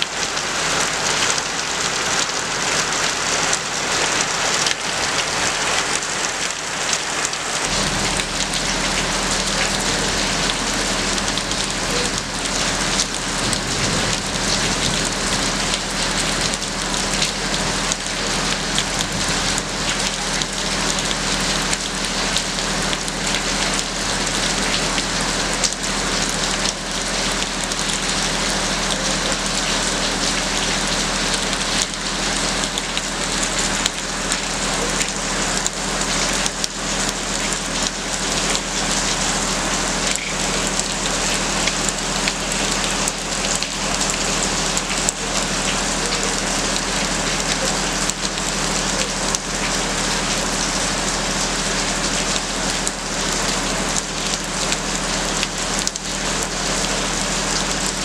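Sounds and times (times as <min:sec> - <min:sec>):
heavy rain falling: 0:00.0 - 0:58.0
low steady hum: 0:07.6 - 0:58.0.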